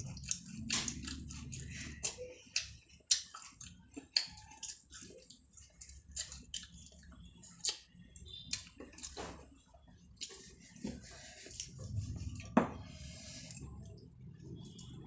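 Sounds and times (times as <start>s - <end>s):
person chewing rice: 0.0s - 15.0s.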